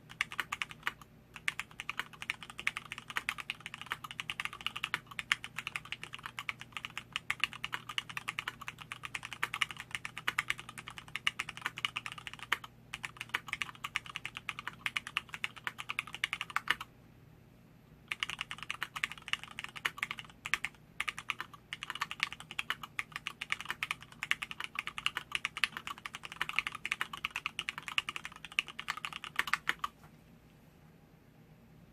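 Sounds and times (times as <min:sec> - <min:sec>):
mechanical keyboard typing: 0:00.1 - 0:16.9, 0:18.1 - 0:30.0.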